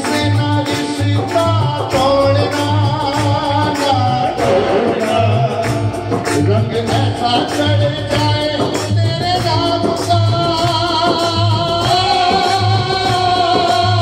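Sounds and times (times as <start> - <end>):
electronic keyboard: 0.0 - 14.0
man singing devotional song: 0.0 - 14.0
steady low beat: 1.4 - 14.0.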